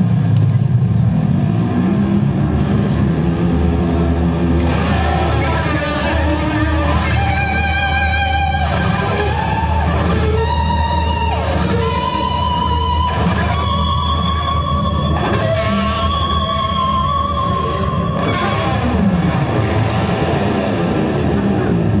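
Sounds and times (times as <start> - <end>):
electric guitar sustained notes: 0.0 - 22.0
low drone: 0.0 - 22.0.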